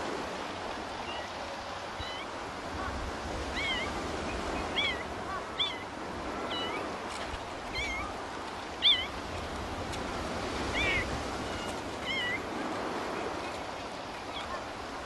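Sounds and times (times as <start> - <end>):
surf noise: 0.0 - 15.0.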